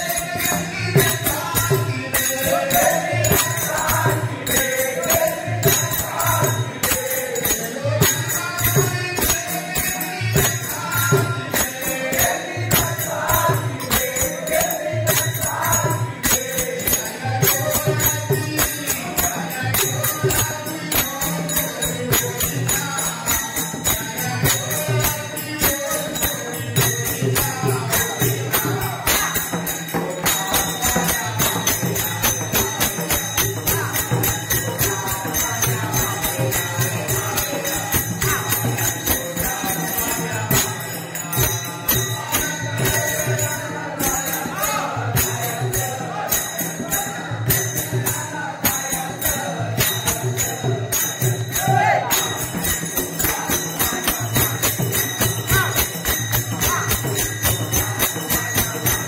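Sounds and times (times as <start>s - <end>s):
group singing devotional song: 0.0s - 59.0s
jingling hand cymbals: 0.0s - 59.0s.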